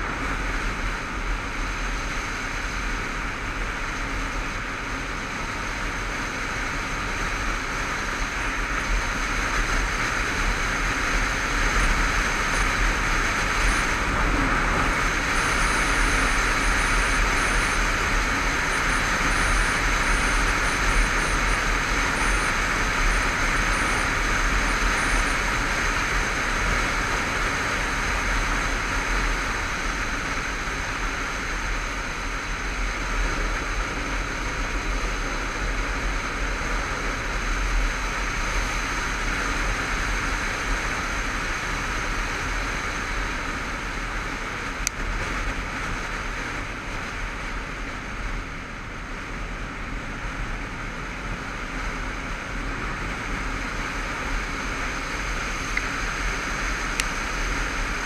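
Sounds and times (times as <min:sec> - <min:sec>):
motorcycle engine drone: 0:00.0 - 0:58.0.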